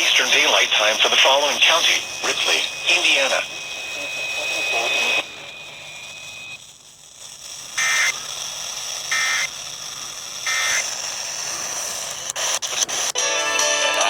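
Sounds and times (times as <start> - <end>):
buzzing digital data tones: 0.0 - 12.8.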